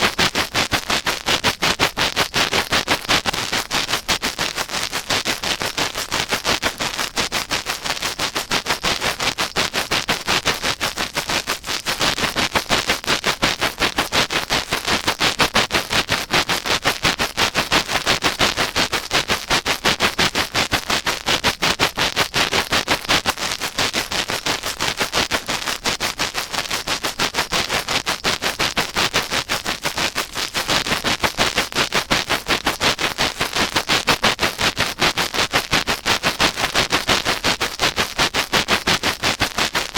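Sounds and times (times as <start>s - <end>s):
scratching against microphone ear: 0.0s - 39.9s.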